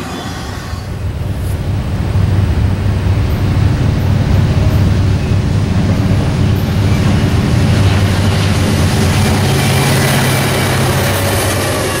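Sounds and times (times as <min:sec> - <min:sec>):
diesel locomotive engines droning: 0:00.0 - 0:12.0
wheels clattering on rails: 0:00.0 - 0:12.0.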